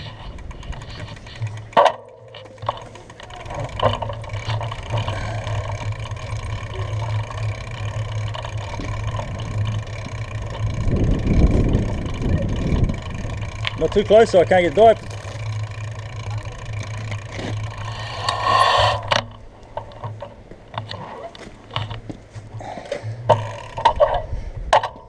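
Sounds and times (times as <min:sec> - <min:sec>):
bicycle rumbling over concrete: 0:00.0 - 0:25.0.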